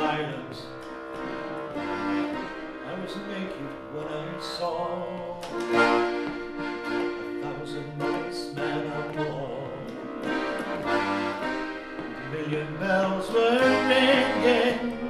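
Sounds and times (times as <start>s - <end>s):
button accordion melody: 0.0s - 15.0s.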